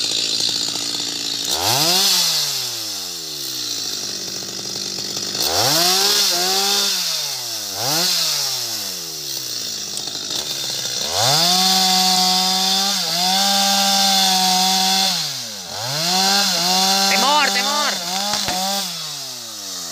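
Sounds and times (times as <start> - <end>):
chainsaw engine revving: 0.0 - 19.9.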